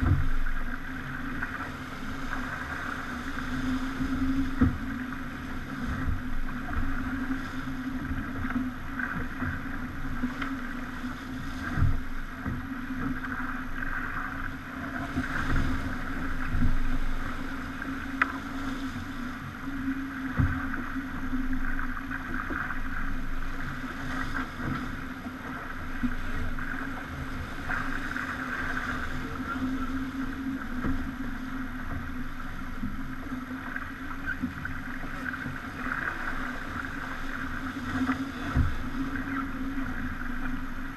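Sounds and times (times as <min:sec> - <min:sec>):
water rushing against hull: 0:00.0 - 0:40.9.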